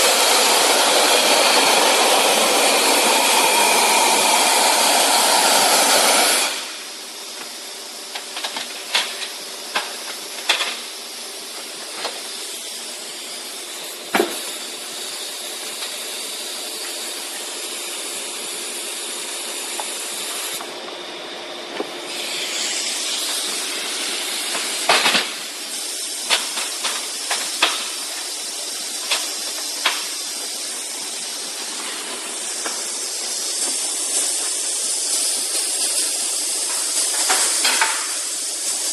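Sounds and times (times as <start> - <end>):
vacuum cleaner hissing: 0.0 - 38.9.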